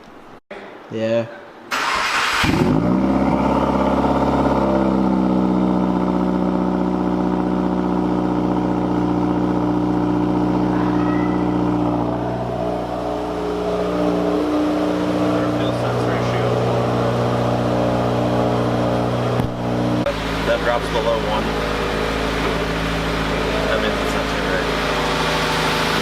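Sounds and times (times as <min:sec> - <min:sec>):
car engine idling: 0:01.8 - 0:26.0.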